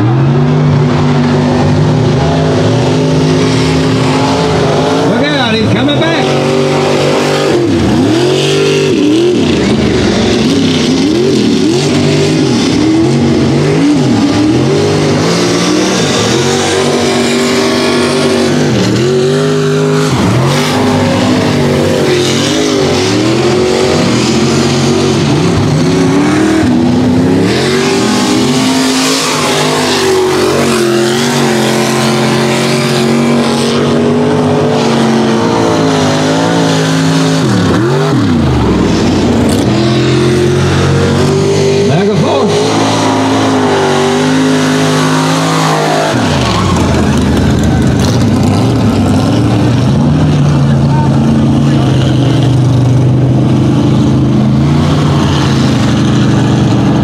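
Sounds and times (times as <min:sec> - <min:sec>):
truck engines revving hard: 0:00.0 - 0:57.0.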